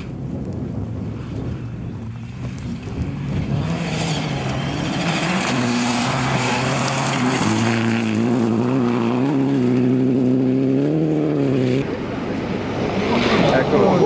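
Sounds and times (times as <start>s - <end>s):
rally car engine revving: 2.0s - 14.0s.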